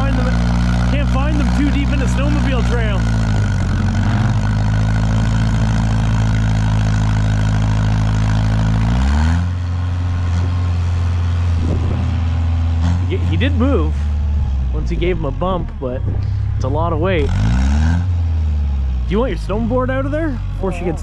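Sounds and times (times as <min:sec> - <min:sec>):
heavy equipment engine under load: 0:00.0 - 0:21.0.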